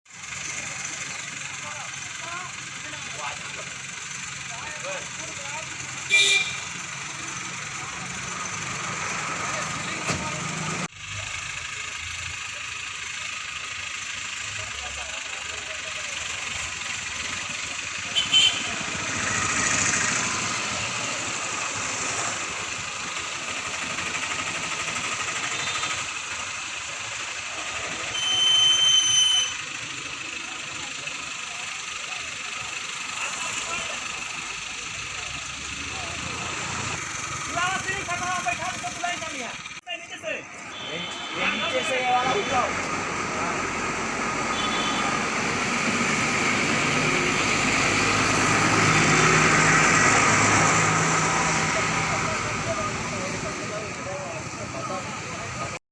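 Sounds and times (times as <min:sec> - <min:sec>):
crane diesel engine rattling: 0:00.1 - 0:55.8.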